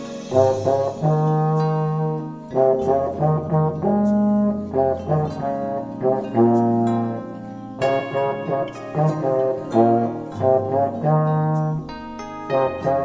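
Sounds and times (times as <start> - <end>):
trombone playing: 0.0 - 13.0.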